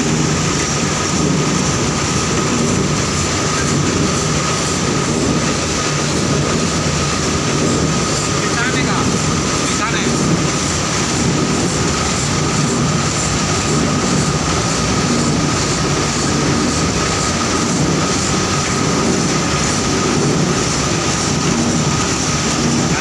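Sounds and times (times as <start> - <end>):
constant high whine: 0.0 - 23.0
milling machinery din: 0.0 - 23.0.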